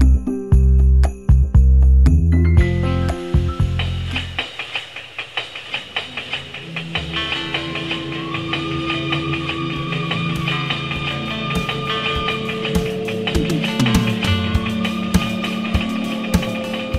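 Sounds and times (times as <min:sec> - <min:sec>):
music with held notes: 0:00.0 - 0:05.0, 0:05.6 - 0:16.9
drum beat: 0:02.6 - 0:16.9.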